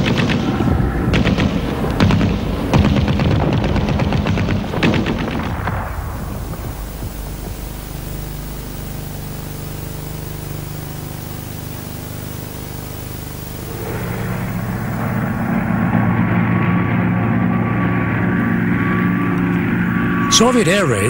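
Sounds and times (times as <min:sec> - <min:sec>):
low rumble: 0:00.0 - 0:09.0, 0:12.3 - 0:20.3
machine-gun fire: 0:00.0 - 0:20.7.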